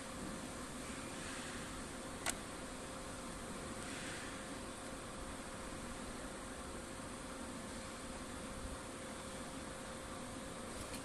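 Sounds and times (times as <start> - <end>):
faint high hum: 0.0 - 11.0.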